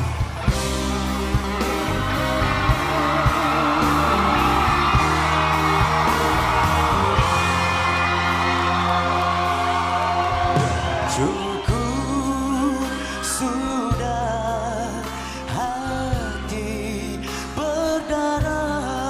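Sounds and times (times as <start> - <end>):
live band playing pop ballad: 0.0 - 19.0.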